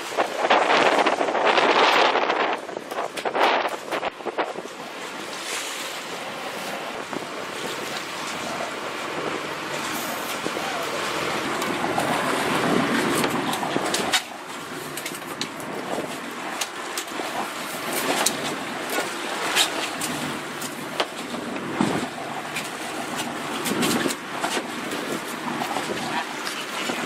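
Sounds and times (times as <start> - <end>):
choppy sea: 0.0 - 27.0
water splashing against hull: 0.0 - 27.0
wind: 0.0 - 27.0.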